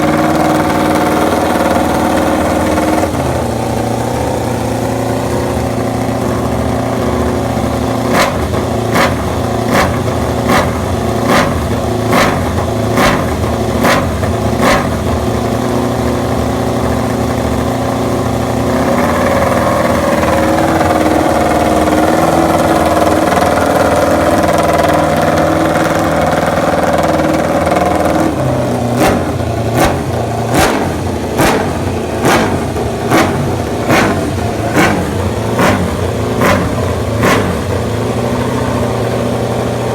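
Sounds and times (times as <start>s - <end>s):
racing motorcycle engine running: 0.0s - 39.9s.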